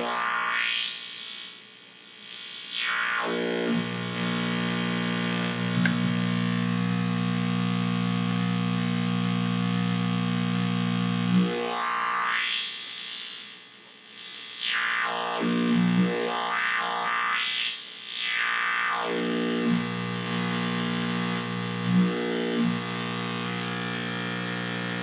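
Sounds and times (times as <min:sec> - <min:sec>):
buzzing synth tone with filter sweeps: 0:00.0 - 0:25.0.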